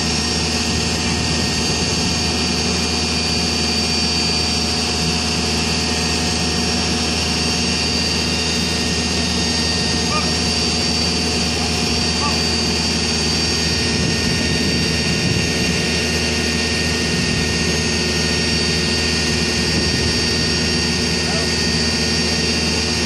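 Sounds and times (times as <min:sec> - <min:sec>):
diesel engine running: 0:00.0 - 0:23.0
high-pitched whine: 0:00.0 - 0:23.0.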